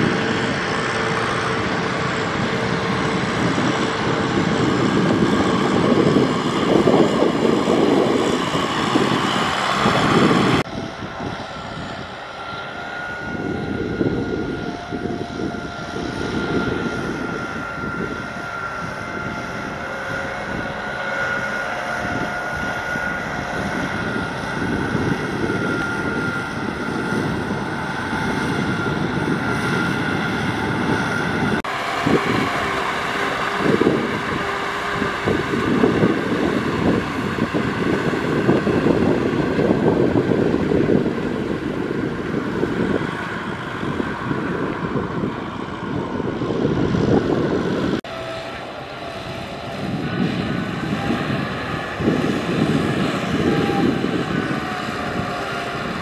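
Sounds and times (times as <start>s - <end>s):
faint whine: 0.0s - 56.0s
tractor diesel engine droning: 0.0s - 56.0s.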